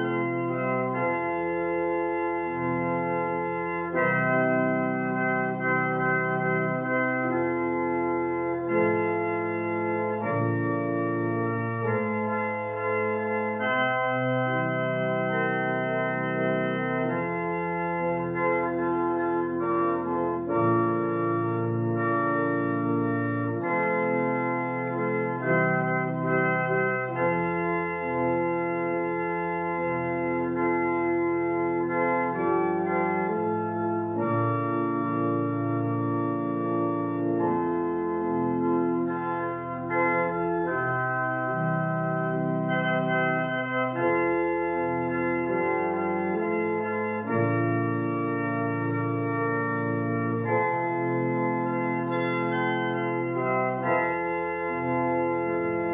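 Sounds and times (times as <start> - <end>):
organ playing sustained chords: 0.0 - 55.9.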